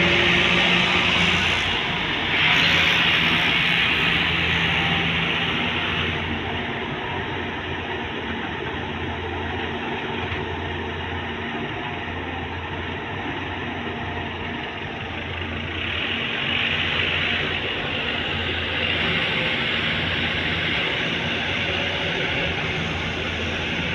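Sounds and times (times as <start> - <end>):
excavator diesel engine humming: 0.0 - 23.9.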